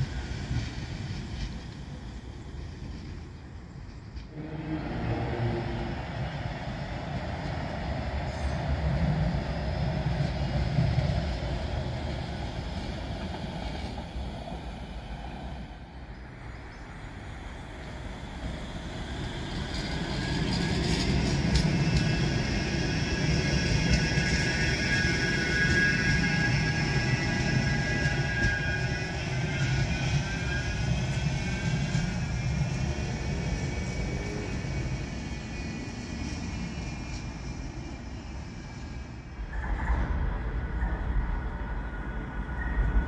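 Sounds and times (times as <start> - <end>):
tram high whine: 0.0 - 43.0
tram wheels rumbling on track: 0.0 - 43.0.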